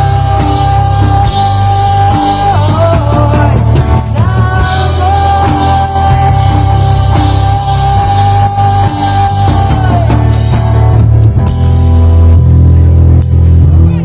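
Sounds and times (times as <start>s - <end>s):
rock band playing loudly: 0.0s - 14.0s.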